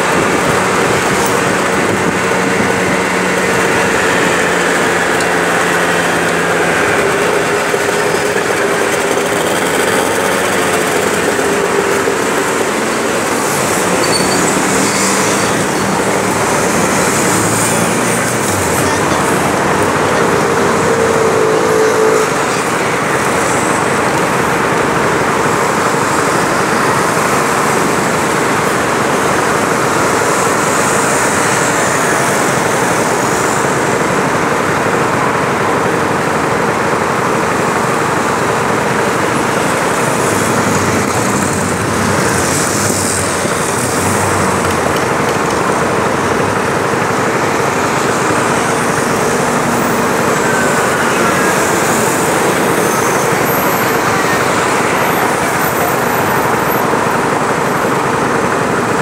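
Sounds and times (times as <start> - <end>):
cars and motorbikes passing: 0.0 - 59.0
city traffic noise: 0.0 - 59.0
scooter engine running: 0.0 - 59.0.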